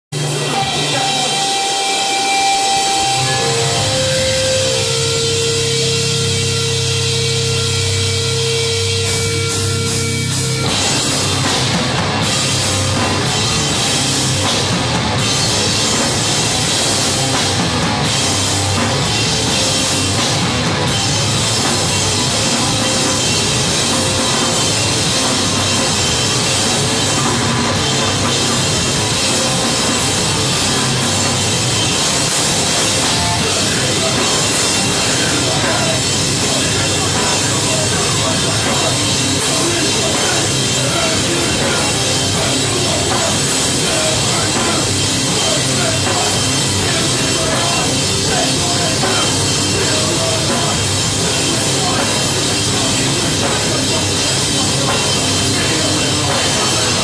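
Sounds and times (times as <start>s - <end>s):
punk band playing loud: 0.0s - 57.0s.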